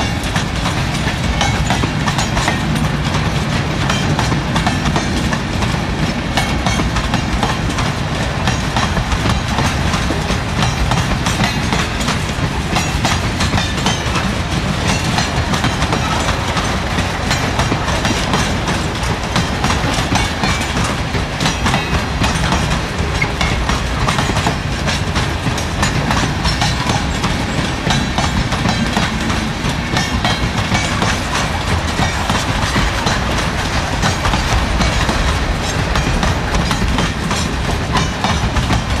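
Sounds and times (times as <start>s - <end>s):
freight train wheels rumbling: 0.0s - 39.0s
wagon wheels clickety-clack: 0.0s - 39.0s.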